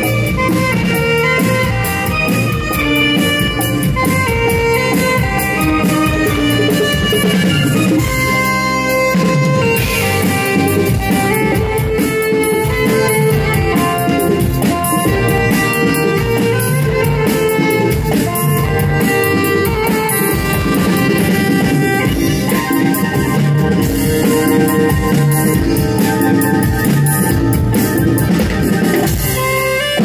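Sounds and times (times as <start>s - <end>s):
drum kit: 0.0s - 30.0s
electric guitar: 0.0s - 30.0s
keyboards: 0.0s - 30.0s
saxophone melody: 0.0s - 30.0s.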